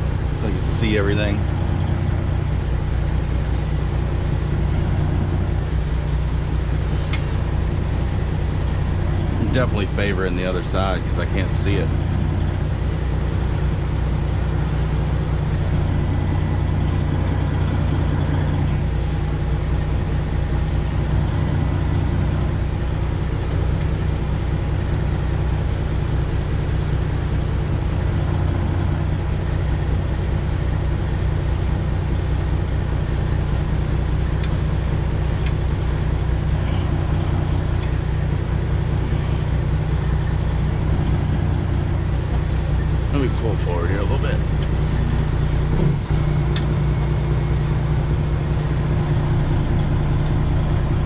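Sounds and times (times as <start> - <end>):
truck engine running at low revs: 0.0 - 51.0.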